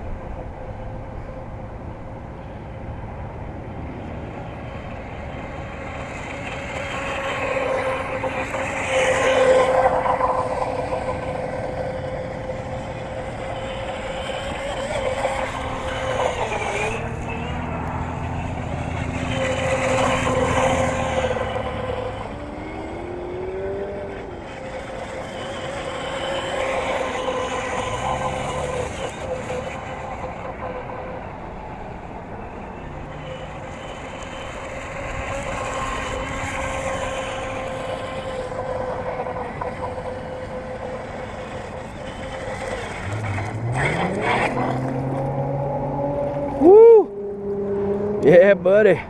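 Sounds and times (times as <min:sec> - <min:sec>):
electric motor and propeller whine: 0:00.0 - 0:49.0.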